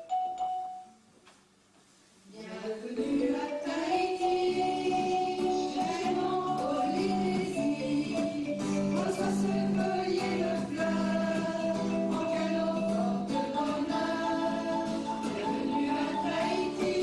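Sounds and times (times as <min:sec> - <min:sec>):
person singing with held notes: 0:02.3 - 0:17.0
instrumental backing: 0:03.0 - 0:17.0.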